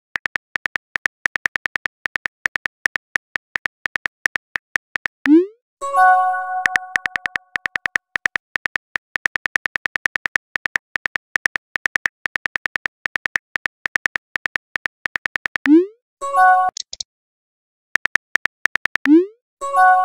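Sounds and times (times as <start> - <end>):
keyboard typing clicks: 0.0 - 5.5, 6.6 - 15.8, 16.7 - 17.0, 18.0 - 19.2.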